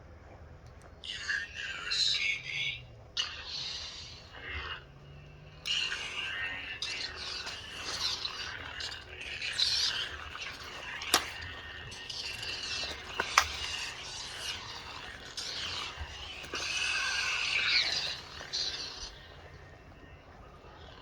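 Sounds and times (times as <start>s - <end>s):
lightsaber hum: 1.0s - 21.0s.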